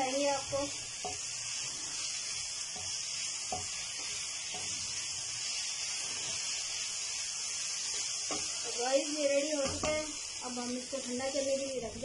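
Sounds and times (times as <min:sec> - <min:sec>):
spatula scraping pan: 0:00.0 - 0:11.6
food sizzling in frying pan: 0:00.0 - 0:12.0.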